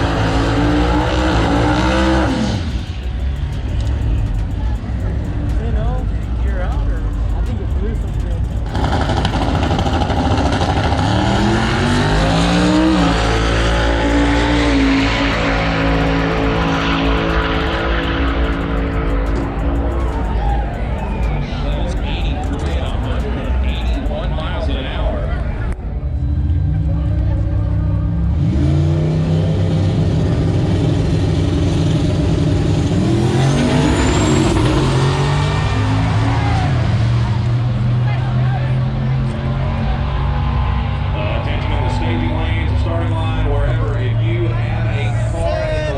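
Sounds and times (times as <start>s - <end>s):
race car engine accelerating: 0.0s - 45.9s.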